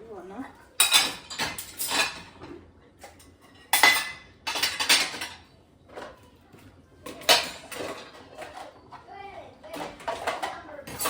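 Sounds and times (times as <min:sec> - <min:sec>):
dishes and cutlery clattering: 0:00.7 - 0:06.4, 0:07.0 - 0:11.0.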